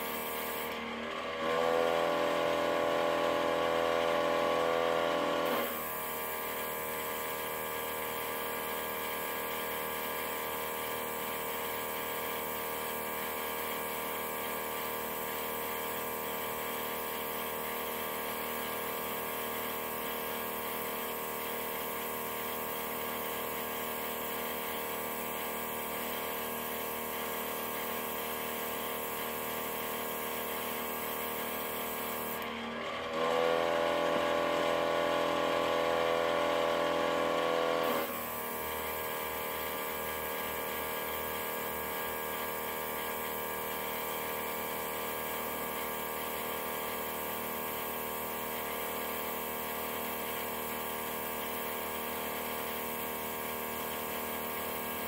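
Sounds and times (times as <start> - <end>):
airbrush compressor humming: 0.0 - 55.0.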